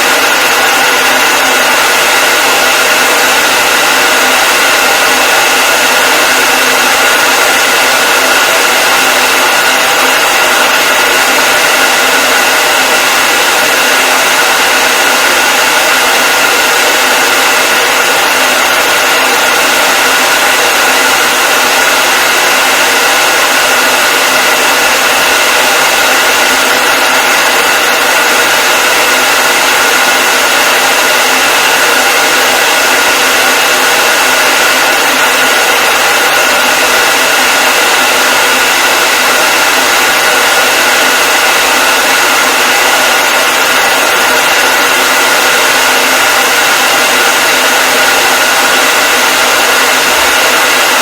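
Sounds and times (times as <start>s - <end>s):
hair dryer whooshing: 0.0s - 51.0s.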